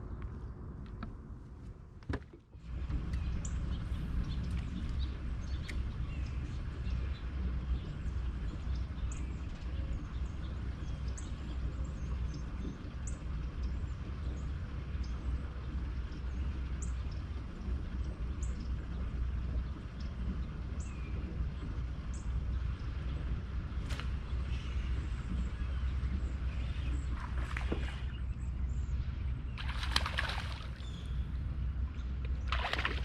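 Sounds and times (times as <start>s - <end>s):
steady low rumble: 0.0s - 33.0s
birds chirping: 2.8s - 33.0s.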